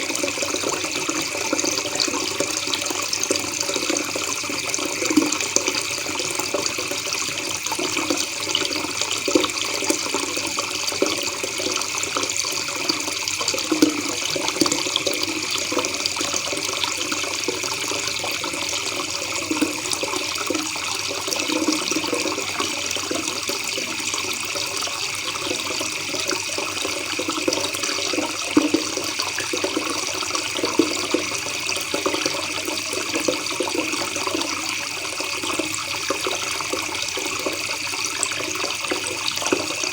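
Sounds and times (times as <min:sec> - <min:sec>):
water gurgling blips: 0:00.0 - 0:39.9.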